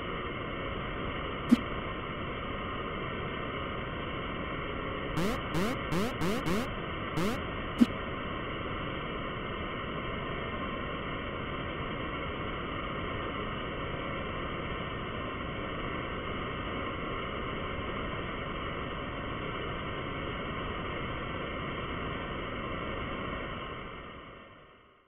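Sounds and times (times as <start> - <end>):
muffled static hiss: 0.0 - 24.9.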